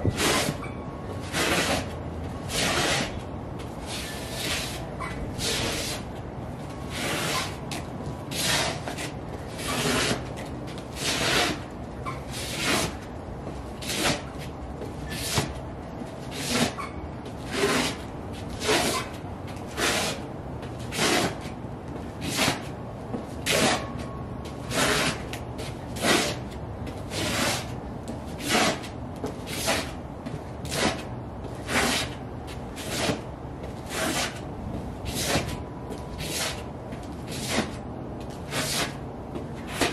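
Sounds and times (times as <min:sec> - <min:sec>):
boots scraping on concrete floor: 0:01.2 - 0:04.8, 0:05.4 - 0:11.7, 0:12.4 - 0:34.4, 0:35.1 - 0:39.9.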